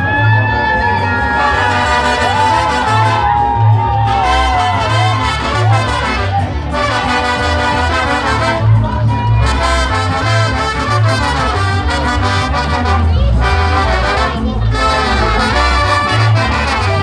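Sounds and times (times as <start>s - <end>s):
brass band music: 0.0s - 17.0s.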